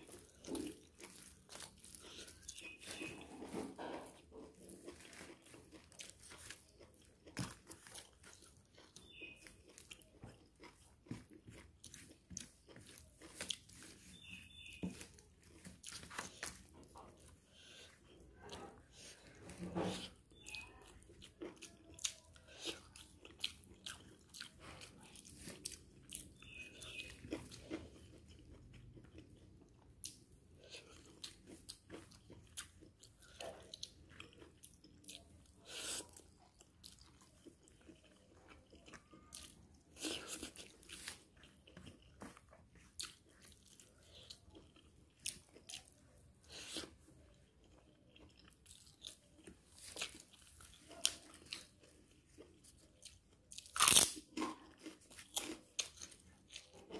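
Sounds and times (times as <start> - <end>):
person chewing sticky food: 0.0 - 56.9.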